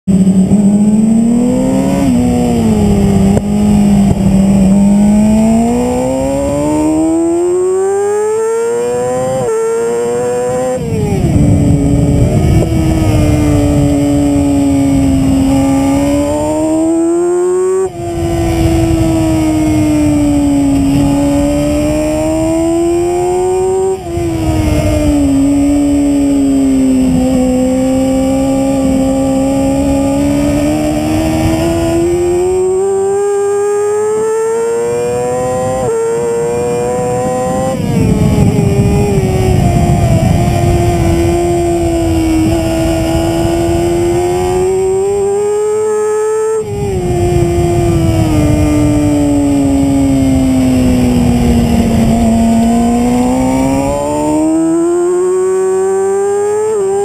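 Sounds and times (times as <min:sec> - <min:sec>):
motorcycle engine revving: 0:00.0 - 0:57.0
wind rushing over microphone: 0:00.1 - 0:57.0.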